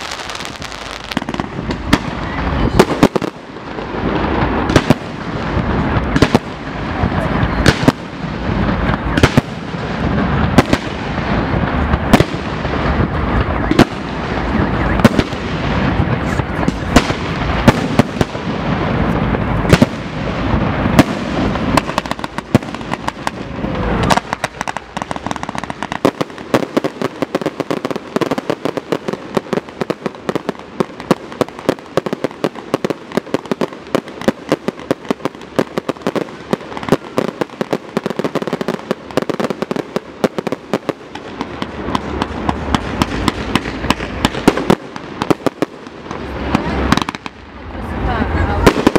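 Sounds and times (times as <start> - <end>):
rapid firework crackling: 0.0 - 48.9.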